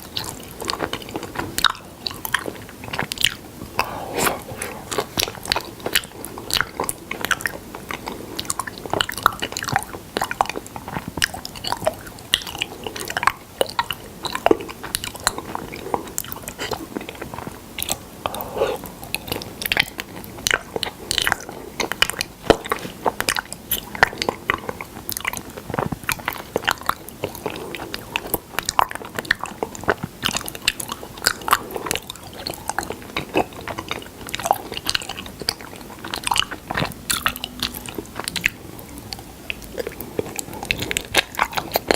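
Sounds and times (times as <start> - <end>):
mouth chewing with clicks and smacks: 0.0 - 41.9.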